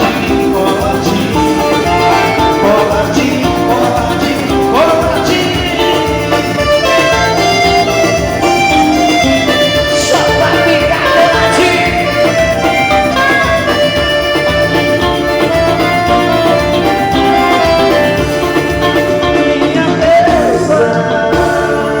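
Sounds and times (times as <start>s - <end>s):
accordion melody: 0.0s - 22.0s
bass: 0.0s - 22.0s
drums: 0.0s - 22.0s.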